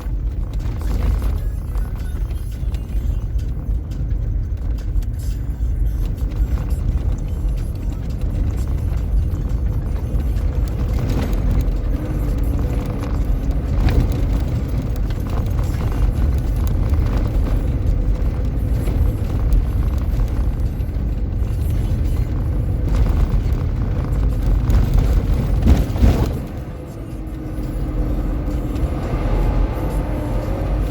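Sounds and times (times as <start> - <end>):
knocks and rattles: 0.0 - 29.5
vehicle engine and road rumble: 0.0 - 30.9.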